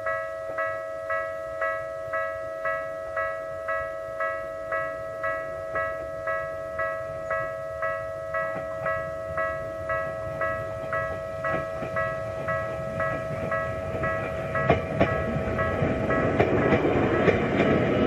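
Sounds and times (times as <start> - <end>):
electric train rumbling: 0.0 - 18.0
level crossing warning bell: 0.0 - 18.0.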